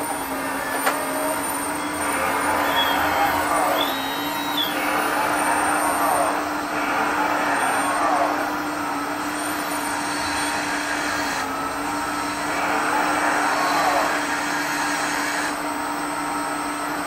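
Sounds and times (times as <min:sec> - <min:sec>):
hydraulic pump hum: 0:00.0 - 0:17.0.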